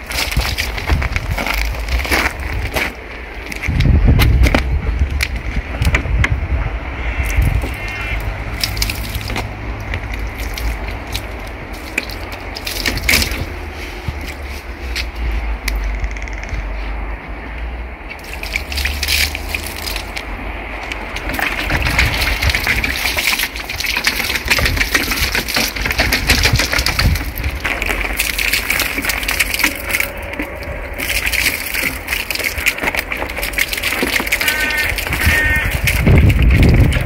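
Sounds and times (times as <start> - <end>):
water splashing onto gravel: 0.0 - 15.9, 18.1 - 37.0.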